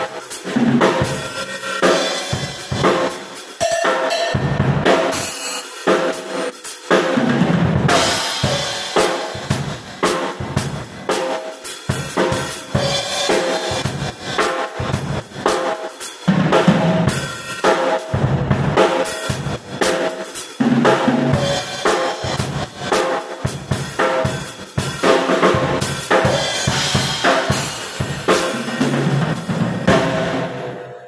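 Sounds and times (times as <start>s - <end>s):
drum kit playing: 0.0s - 31.0s.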